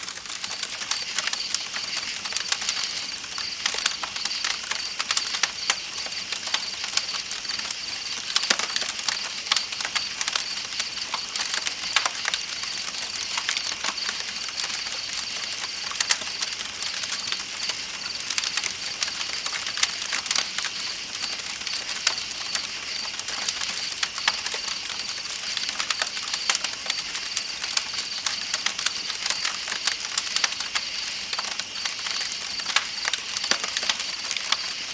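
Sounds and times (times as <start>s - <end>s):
campfire crackling and popping: 0.0s - 34.9s
night insects chirring: 0.1s - 34.9s.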